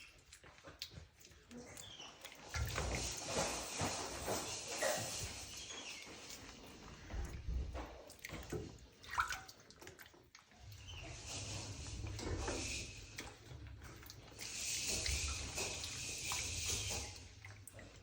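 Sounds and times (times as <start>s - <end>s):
water splashing in a bathtub: 0.0s - 18.0s.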